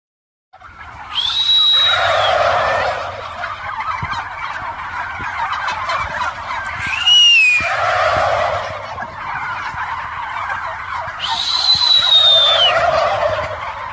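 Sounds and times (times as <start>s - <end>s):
domestic fowl calling: 0.6s - 13.9s
other bird calls: 0.7s - 13.9s.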